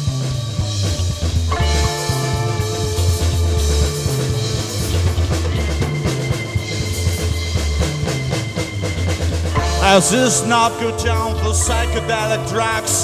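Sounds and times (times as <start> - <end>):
bass guitar: 0.0 - 13.0
drum kit: 0.0 - 13.0
sustained guitar or keyboard tones: 0.0 - 13.0.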